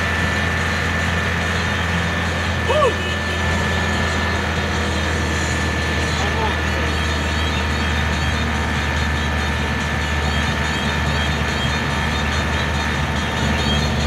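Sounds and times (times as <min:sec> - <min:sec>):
road noise: 0:00.0 - 0:14.0
truck engine running: 0:00.0 - 0:14.0.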